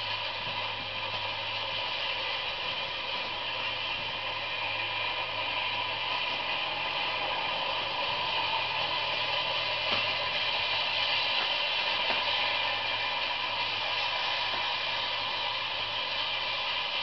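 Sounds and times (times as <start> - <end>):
steel wheels rolling on rail: 0.0 - 17.0.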